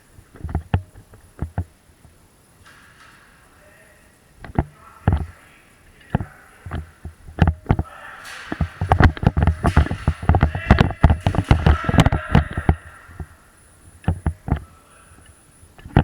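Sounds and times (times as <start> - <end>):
rustling hiss: 0.0 - 16.0.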